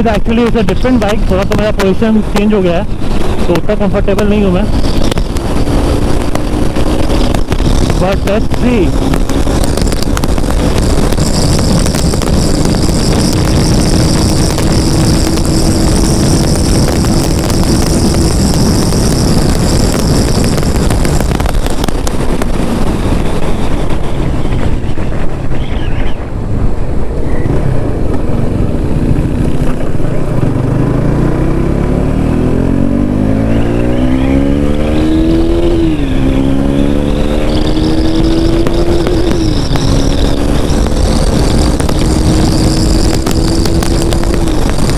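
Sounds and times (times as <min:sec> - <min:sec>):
heavy wind rush: 0:00.0 - 0:44.9
motorcycle engine pulling hard: 0:00.0 - 0:44.9.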